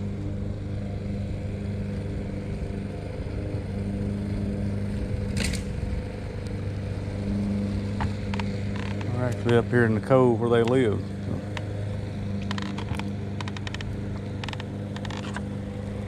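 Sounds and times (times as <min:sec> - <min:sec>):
electric trolling motor humming: 0:00.0 - 0:16.0.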